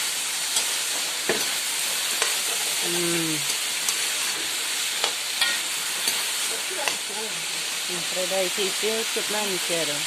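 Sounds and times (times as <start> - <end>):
curry sizzling in a pan: 0.0 - 10.0.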